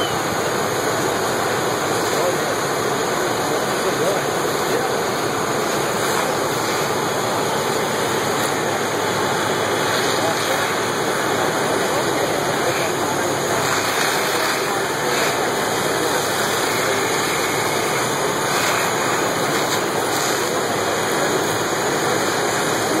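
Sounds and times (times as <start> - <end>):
fire truck engine running: 0.0 - 23.0
water rushing from hoses: 0.0 - 23.0.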